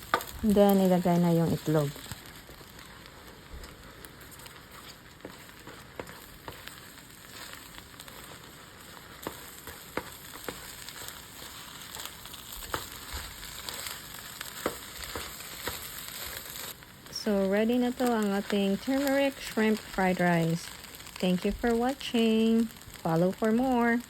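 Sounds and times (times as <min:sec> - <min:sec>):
fried rice sizzling in a pan: 0:00.0 - 0:24.0.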